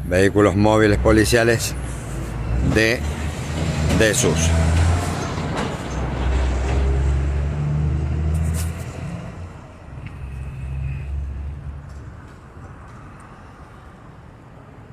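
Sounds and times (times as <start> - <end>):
vehicle engine rumble: 0.0 - 14.9.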